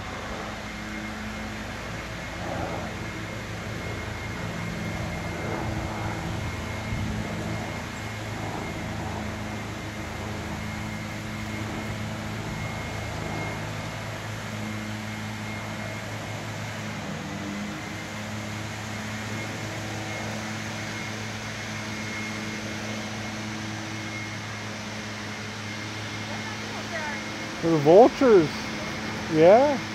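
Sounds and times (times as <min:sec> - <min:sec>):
engine idling with high whine: 0:00.0 - 0:29.9.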